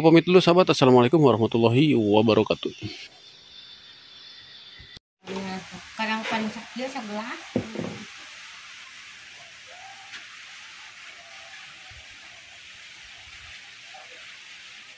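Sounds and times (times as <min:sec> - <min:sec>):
high outdoor hiss: 0:00.0 - 0:14.9.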